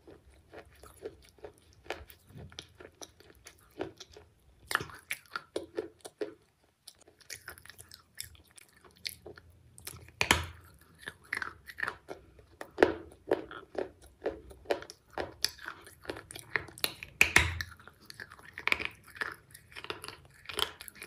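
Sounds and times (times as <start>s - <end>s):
person biting and chewing food: 0.0s - 21.0s.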